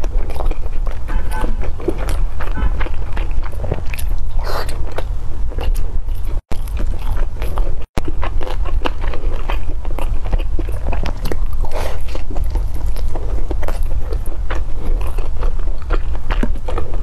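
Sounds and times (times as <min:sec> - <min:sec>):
chewing soft dumplings: 0:00.0 - 0:17.0.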